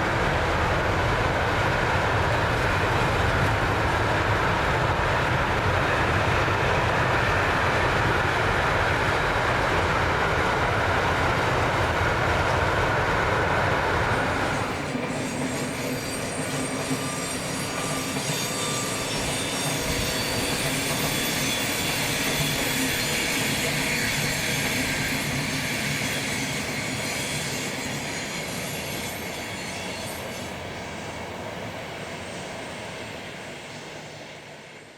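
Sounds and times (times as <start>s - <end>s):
train passing: 0.0s - 34.9s.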